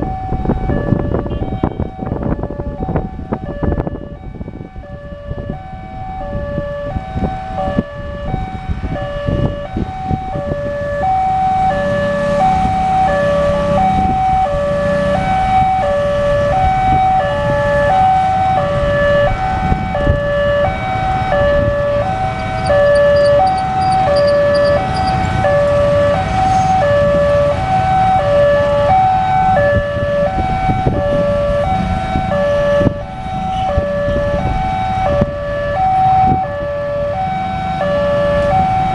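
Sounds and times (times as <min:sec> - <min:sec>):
level crossing alarm: 0:00.0 - 0:38.9
second crossing alarm: 0:00.0 - 0:38.9.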